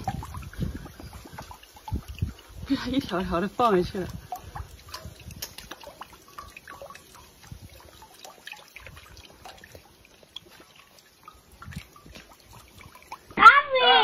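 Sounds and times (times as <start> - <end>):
water dripping and splashing: 0.0 - 14.0.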